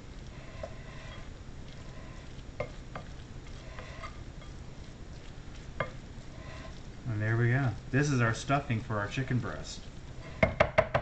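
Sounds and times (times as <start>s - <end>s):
spoon stirring food in a bowl: 0.0s - 11.0s.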